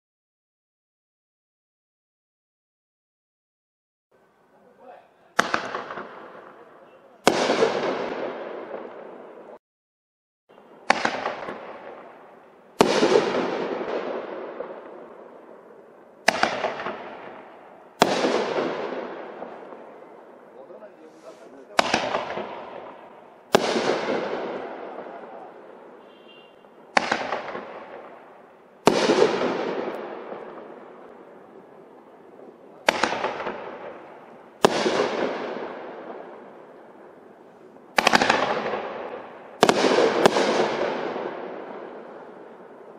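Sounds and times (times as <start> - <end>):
firework bangs: 4.8 - 9.6, 10.5 - 42.9.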